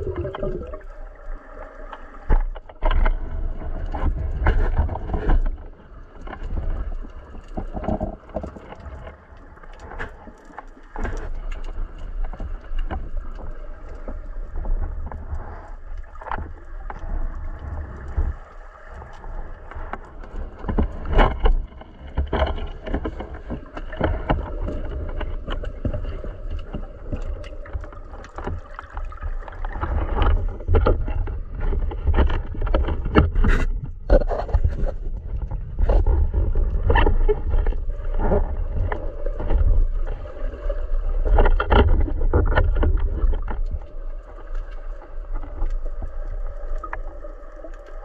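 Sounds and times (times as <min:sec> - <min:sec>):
muffled underwater rumble: 0:00.0 - 0:48.0.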